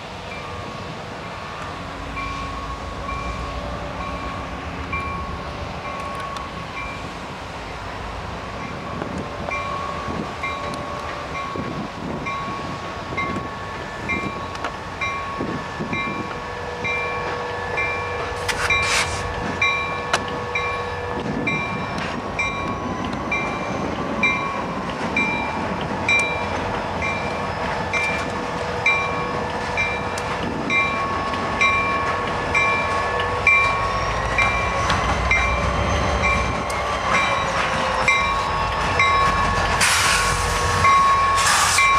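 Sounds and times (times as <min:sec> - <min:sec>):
railcars clacking: 0:00.0 - 0:41.9
train rolling past: 0:00.0 - 0:41.9.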